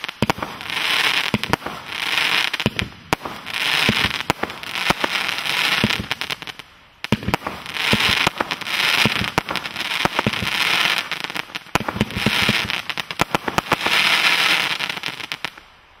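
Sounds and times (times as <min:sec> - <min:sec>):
firework bangs: 0:00.0 - 0:15.6
firework crackling: 0:00.0 - 0:16.0.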